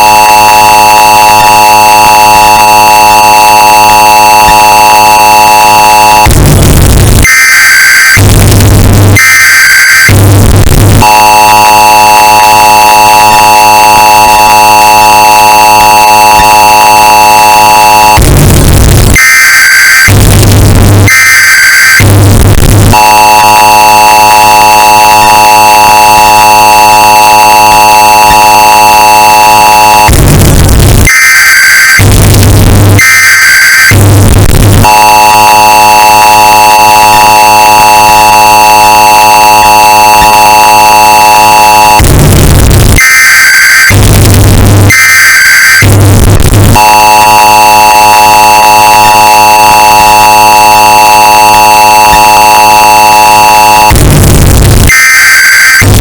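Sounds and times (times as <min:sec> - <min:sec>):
screeching data bursts: 0:00.0 - 0:06.4, 0:07.0 - 0:19.0, 0:21.4 - 0:32.2, 0:33.0 - 0:42.2, 0:46.8 - 0:53.9
distorted two-tone attention signal: 0:00.0 - 0:56.0.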